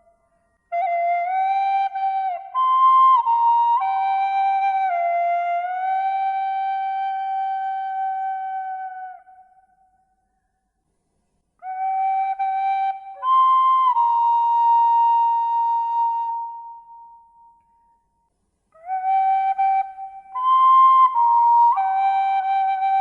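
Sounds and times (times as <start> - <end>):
slow flute melody: 0.0 - 10.4, 11.6 - 23.0.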